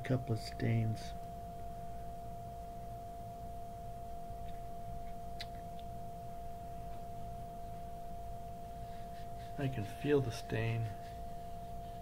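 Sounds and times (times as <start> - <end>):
low hum: 0.0 - 12.0
steady high hum: 0.0 - 12.0.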